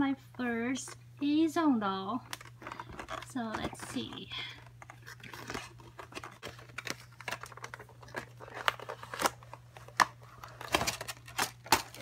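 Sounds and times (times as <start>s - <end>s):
plastic sleeve crinkling: 2.1s - 12.0s.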